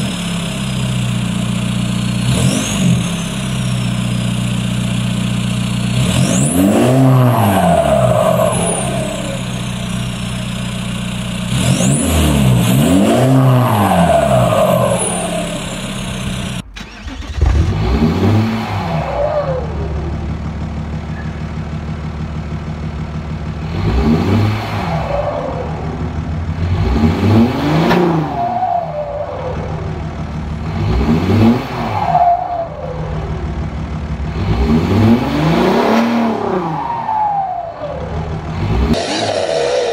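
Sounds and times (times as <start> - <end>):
diesel engine idling and blipping: 0.0 - 39.9
diesel engine revving: 0.0 - 39.9.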